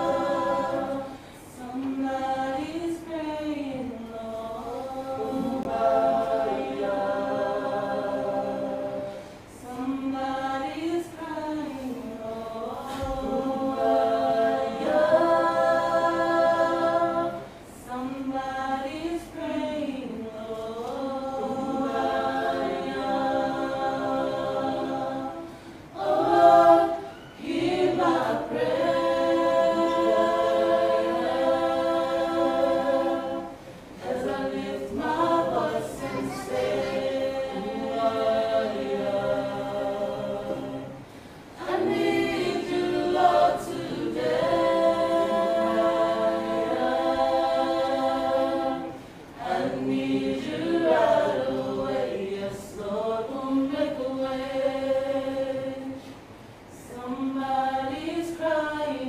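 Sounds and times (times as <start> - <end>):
choir singing unaccompanied: 0.0 - 59.0.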